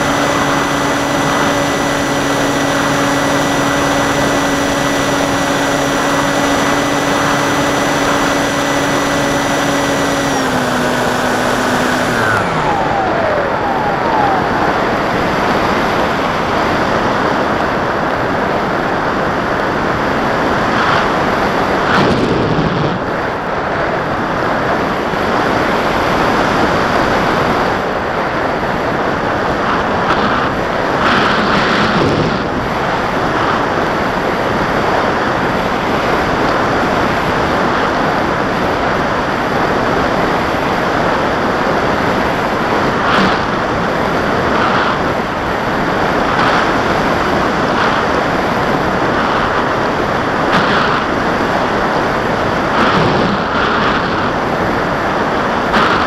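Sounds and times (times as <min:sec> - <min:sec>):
motor propeller noise: 0:00.0 - 0:56.0
wind rushing over microphone: 0:00.0 - 0:56.0.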